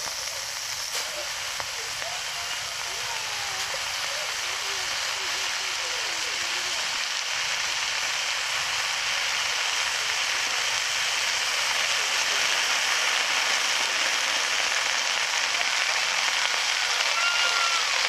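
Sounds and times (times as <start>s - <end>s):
greens sizzling in a pan: 0.0s - 18.0s.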